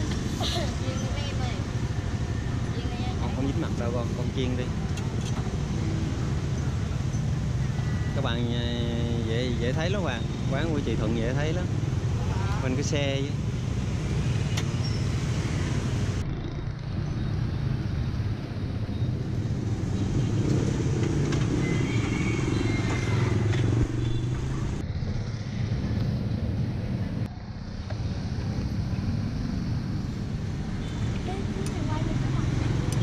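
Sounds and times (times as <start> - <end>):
motorbike traffic rumble: 0.0 - 33.0.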